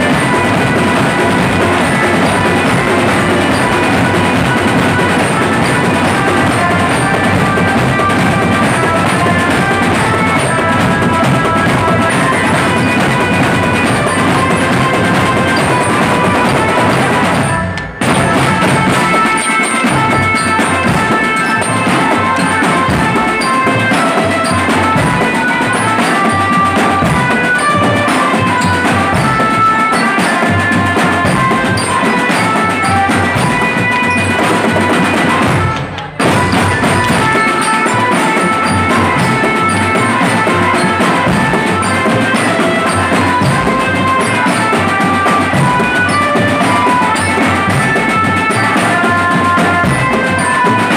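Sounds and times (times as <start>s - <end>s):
marching drums pounding: 0.0s - 50.9s.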